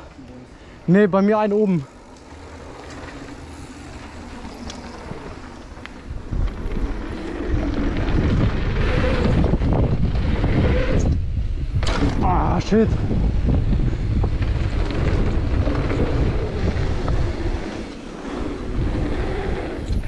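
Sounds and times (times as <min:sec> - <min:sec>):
tyres rolling on dirt trail: 0:00.0 - 0:20.0
wind rushing over microphone: 0:03.4 - 0:20.0.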